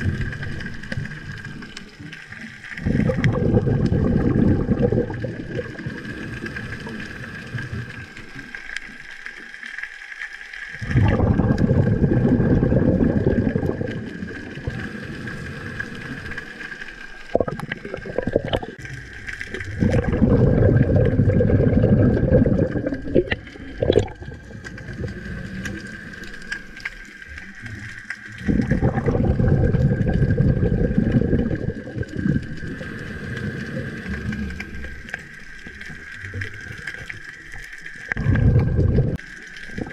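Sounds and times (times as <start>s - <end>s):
underwater water rush: 0.0s - 39.9s.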